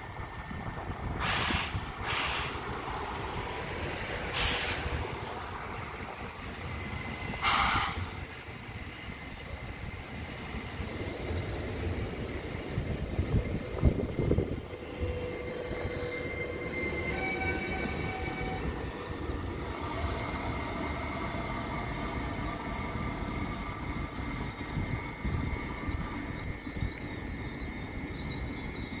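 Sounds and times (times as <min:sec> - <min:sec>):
electric train drive whine: 0:00.0 - 0:29.0
train wheels rumbling on track: 0:00.0 - 0:29.0.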